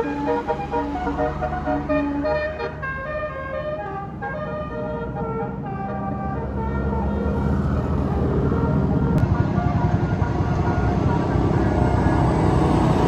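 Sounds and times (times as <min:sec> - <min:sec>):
bus engine rumble: 0:00.0 - 0:13.0
bus melody horn: 0:00.0 - 0:13.0.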